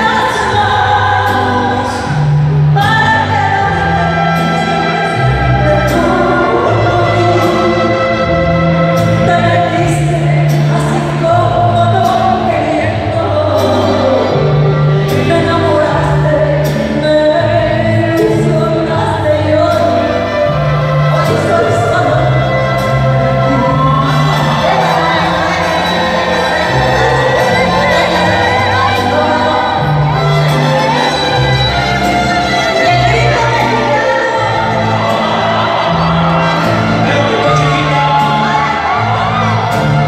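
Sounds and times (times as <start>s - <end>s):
live band music: 0.0s - 40.0s
person singing: 0.0s - 40.0s.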